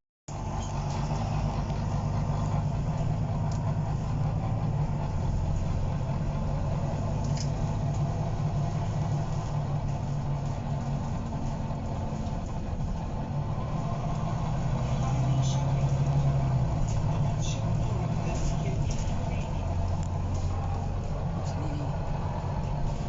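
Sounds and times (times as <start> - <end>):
bus diesel engine droning: 0.3 - 23.0.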